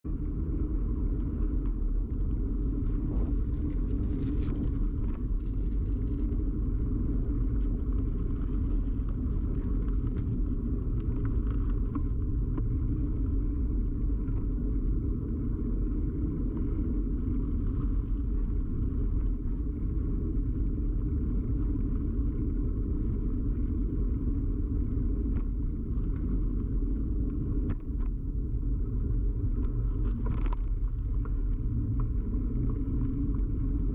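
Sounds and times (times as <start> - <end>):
bicycle tyre rumble on road: 0.0 - 33.9
faint ticks and rattles: 0.1 - 33.9.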